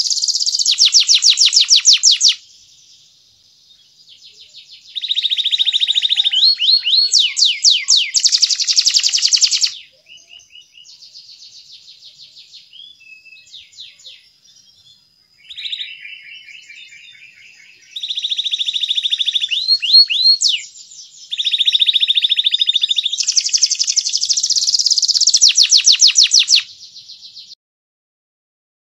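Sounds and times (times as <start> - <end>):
canary singing: 0.0 - 2.4, 4.1 - 14.8, 15.4 - 27.6.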